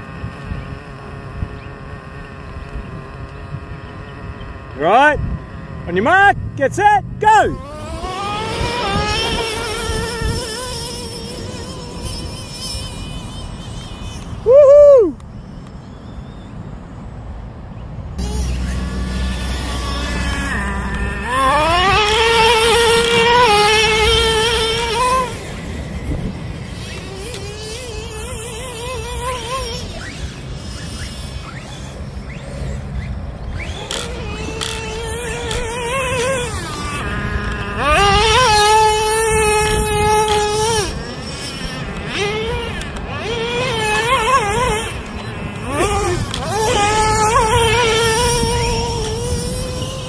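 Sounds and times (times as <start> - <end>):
nitro engine revving high: 0.0 - 15.4, 18.1 - 50.0.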